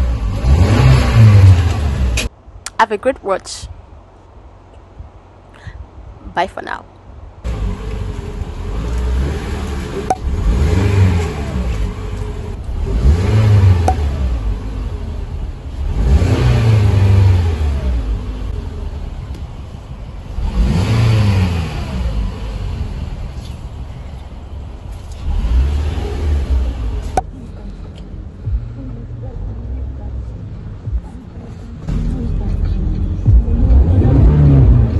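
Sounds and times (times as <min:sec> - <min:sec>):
car engine revving and idling: 0:00.0 - 0:02.5, 0:07.4 - 0:34.9.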